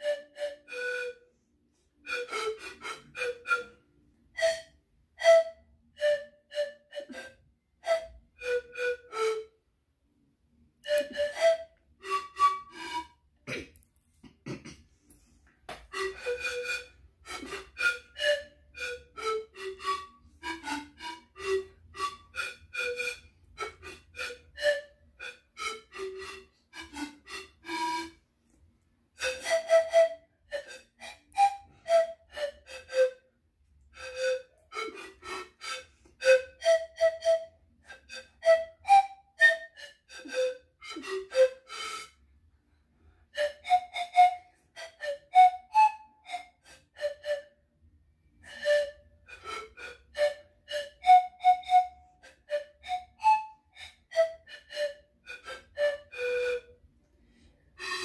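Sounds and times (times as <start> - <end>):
panpipe melody: 0.0 - 1.4, 2.0 - 9.6, 10.8 - 13.2, 15.7 - 28.2, 29.2 - 42.3, 43.3 - 47.6, 48.3 - 58.0.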